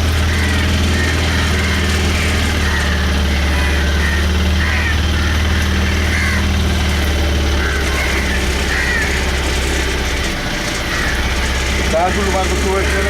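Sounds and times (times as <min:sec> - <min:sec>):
boat engine humming: 0:00.0 - 0:13.0
short bird calls: 0:00.0 - 0:13.0.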